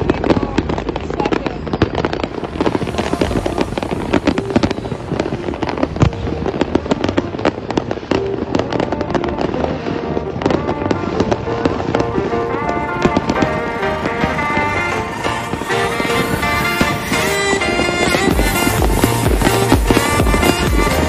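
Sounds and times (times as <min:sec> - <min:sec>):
fireworks popping and banging: 0:00.0 - 0:21.0
music: 0:00.1 - 0:21.0.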